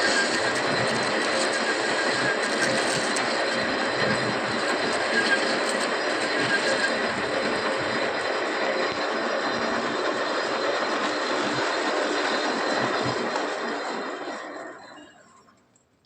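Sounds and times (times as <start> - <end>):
workshop machinery running: 0.0 - 15.7.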